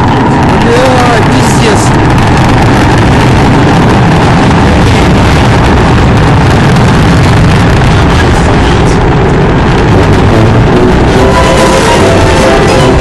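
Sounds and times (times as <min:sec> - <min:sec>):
rocket engine roaring: 0:00.0 - 0:13.0.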